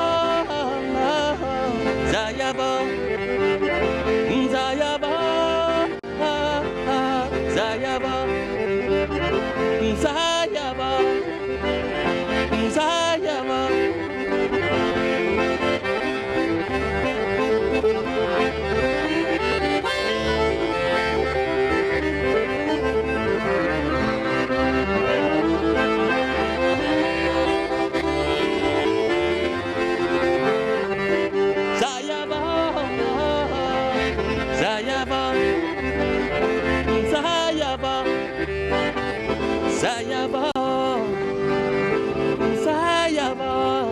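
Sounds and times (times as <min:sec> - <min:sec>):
live band playing: 0:00.0 - 0:43.9.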